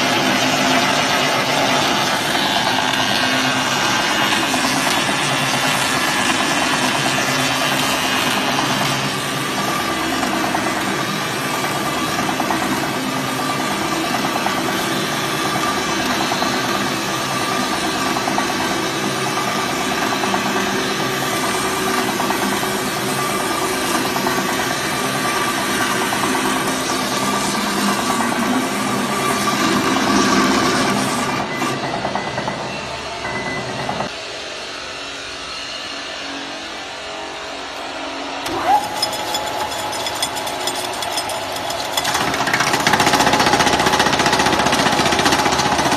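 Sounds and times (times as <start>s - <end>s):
tyre cutting machine running: 0.0s - 33.0s, 38.4s - 45.9s.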